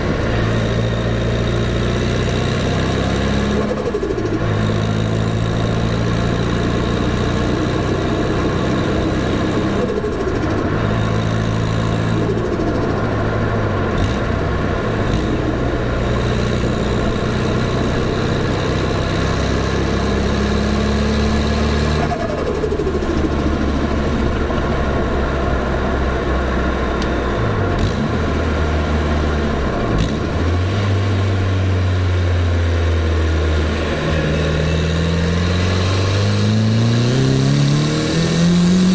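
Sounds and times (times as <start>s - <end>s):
car engine running with gear changes: 0.0s - 38.9s.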